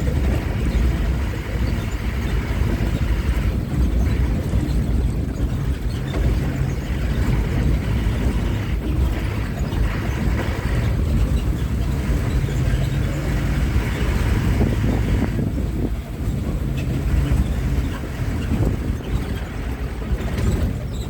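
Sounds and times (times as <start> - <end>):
bus engine rumble: 0.0 - 21.0
road noise: 0.0 - 21.0.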